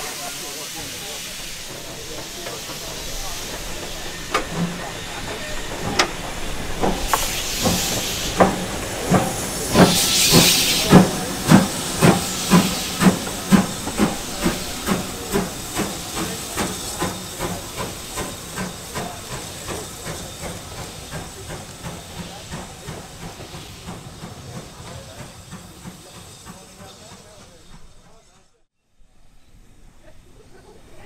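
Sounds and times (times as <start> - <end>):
steam hiss: 0.0 - 28.4
steam locomotive exhaust beats: 0.0 - 28.6.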